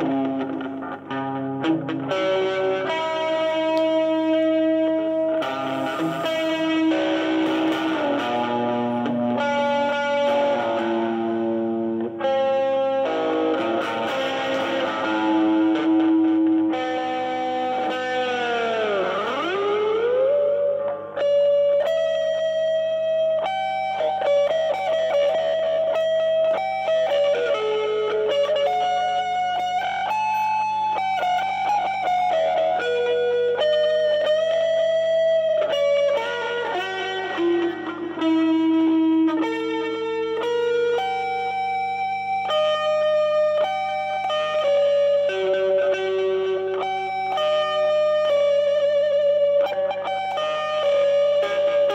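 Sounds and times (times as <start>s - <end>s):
electric guitar lead line: 0.0s - 51.9s.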